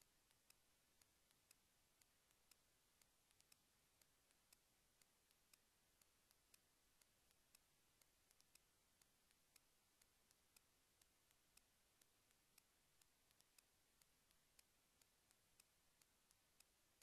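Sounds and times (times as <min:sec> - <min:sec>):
faint sharp ticks: 0:00.0 - 0:17.0.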